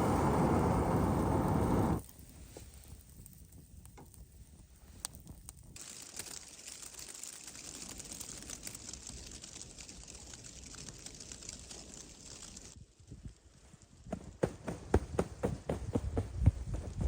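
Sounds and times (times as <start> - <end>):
soft hiss of fine crackle: 0.0 - 14.1
campfire crackling and popping: 0.0 - 14.4.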